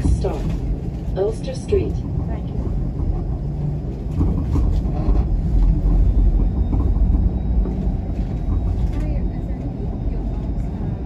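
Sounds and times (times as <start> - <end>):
transit vehicle rumble from inside: 0.0 - 11.0.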